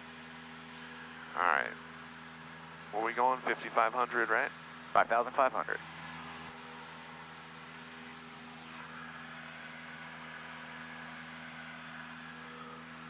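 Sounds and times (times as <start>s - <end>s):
aircraft propeller engine droning: 0.2s - 13.0s.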